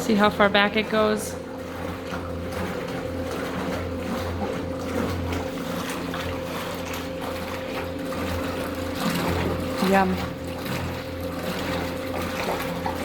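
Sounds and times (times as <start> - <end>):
milk being stirred: 0.0 - 13.0
tank agitator motor hum: 0.0 - 13.0.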